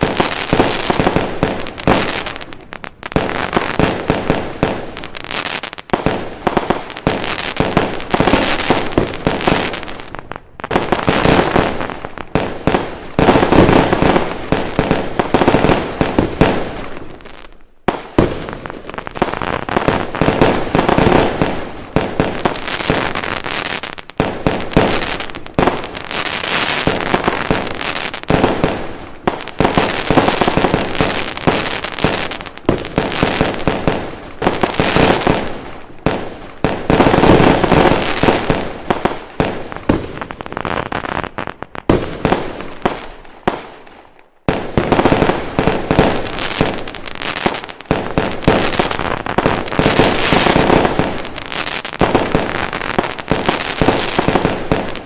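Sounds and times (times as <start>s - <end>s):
firecrackers crackling: 0.0s - 55.0s
fireworks bangs: 0.0s - 55.0s.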